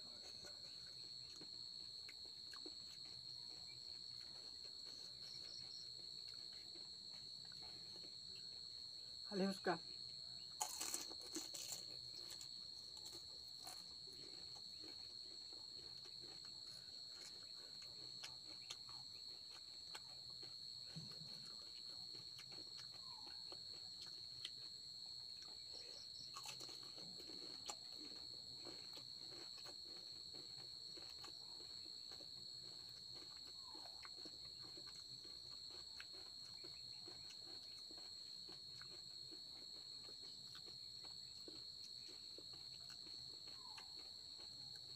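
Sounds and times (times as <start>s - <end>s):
crickets trilling: 0.0s - 44.9s
crisp snack being chewed: 0.1s - 8.8s, 10.1s - 44.9s.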